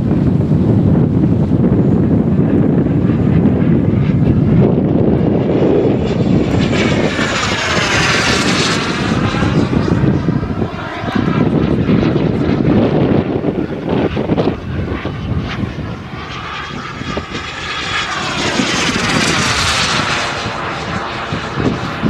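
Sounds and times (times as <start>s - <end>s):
jet turbine whine: 0.0s - 22.0s
wind rumble on microphone: 0.0s - 22.0s.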